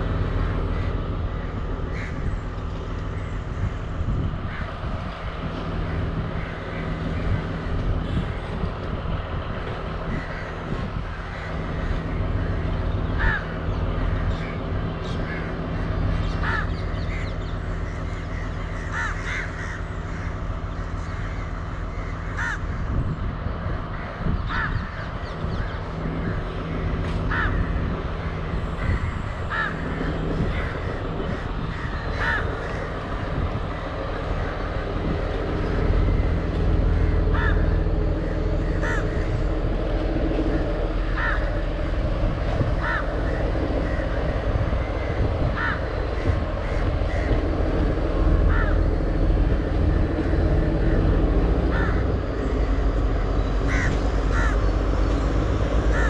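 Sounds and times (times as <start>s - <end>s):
diesel engine hum: 0.0s - 56.0s
crows cawing: 0.4s - 2.4s, 4.4s - 4.9s, 5.8s - 8.7s, 10.0s - 23.0s, 23.9s - 56.0s.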